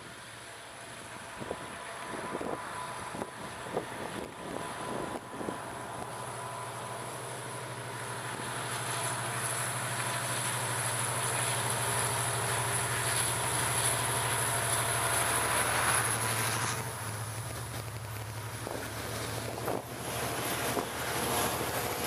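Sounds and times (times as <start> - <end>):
diesel locomotive engine under load: 0.0 - 22.0
wagons rumbling on rails: 0.0 - 22.0.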